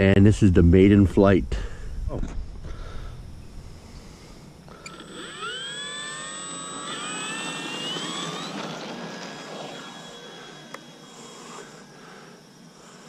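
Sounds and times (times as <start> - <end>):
electric motor whine: 2.3 - 13.0.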